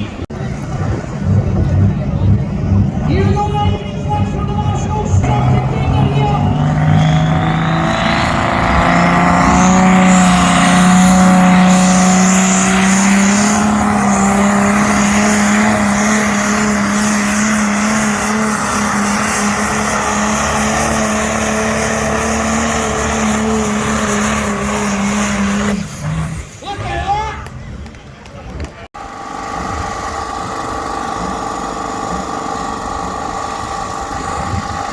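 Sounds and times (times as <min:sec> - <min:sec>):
tractor engine at full throttle: 0:00.0 - 0:26.6, 0:29.0 - 0:34.9.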